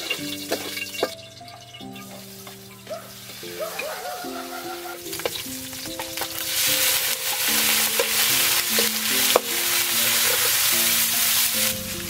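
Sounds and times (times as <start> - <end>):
spatula scraping wok: 0.0 - 4.0, 4.9 - 12.0
food sizzling in oil: 0.0 - 12.0
soft piano tune: 0.0 - 12.0.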